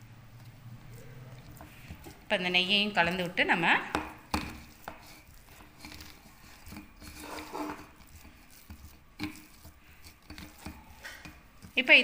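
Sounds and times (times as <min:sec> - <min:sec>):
hands kneading soft dough: 0:00.0 - 0:12.0.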